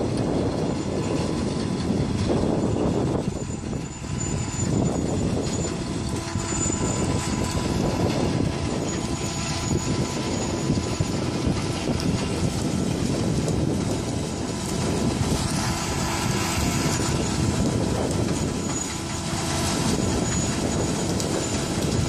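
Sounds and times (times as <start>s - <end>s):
combine harvester drone: 0.0s - 22.0s
thin high whine: 0.8s - 22.0s.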